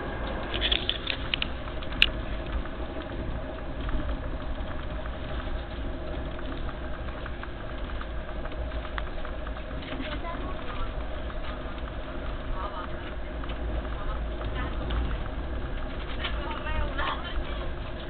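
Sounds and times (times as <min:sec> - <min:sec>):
train rumbling and rolling: 0:00.0 - 0:18.0.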